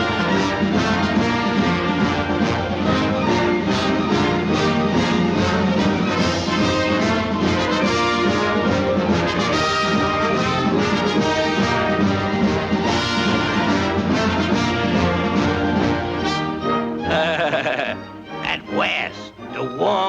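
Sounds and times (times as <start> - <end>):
orchestral cartoon music with brass: 0.0 - 20.0.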